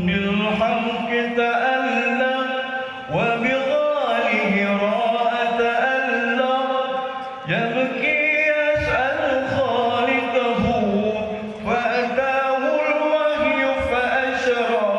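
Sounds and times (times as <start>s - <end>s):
man singing devotional song: 0.0s - 14.9s.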